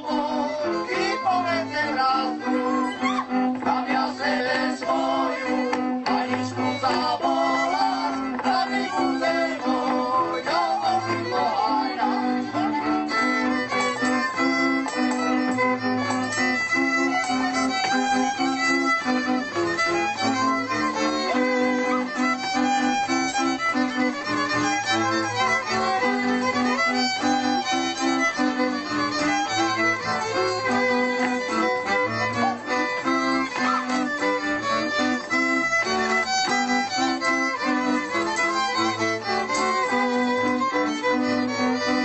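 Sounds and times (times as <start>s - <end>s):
folk fiddle music: 0.0s - 42.0s.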